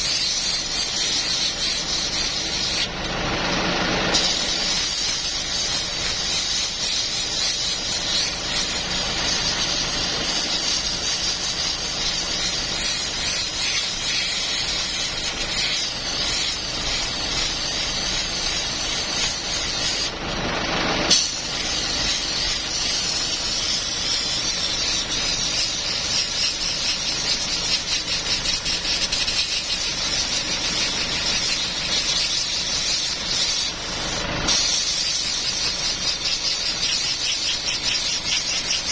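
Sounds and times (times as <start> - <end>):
hissing spray: 0.0 - 3.0, 4.1 - 20.1, 21.1 - 38.9.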